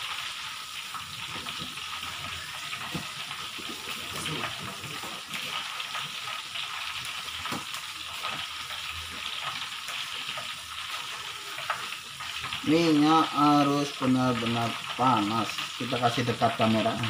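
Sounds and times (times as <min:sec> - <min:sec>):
tofu sizzling in hot oil: 0:00.0 - 0:17.0.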